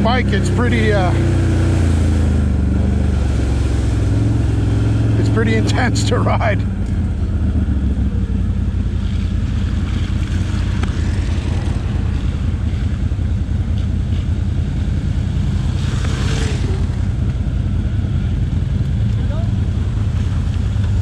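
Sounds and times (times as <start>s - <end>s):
atv engine running: 0.0s - 21.0s
wind and trail noise: 0.0s - 21.0s.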